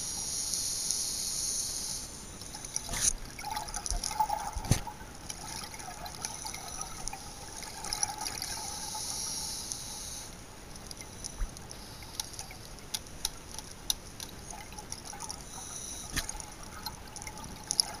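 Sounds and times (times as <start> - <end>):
underwater bubbling: 2.0 - 18.0.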